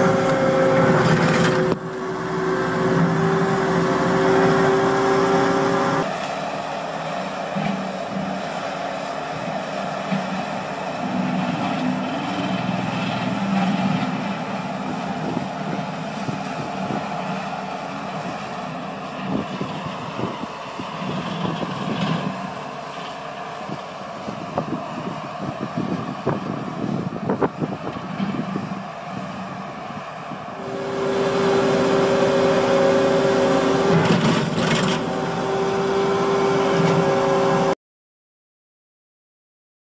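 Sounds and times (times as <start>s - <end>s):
brush cutter rushing noise: 0.0s - 37.8s
low engine hum: 0.0s - 37.8s.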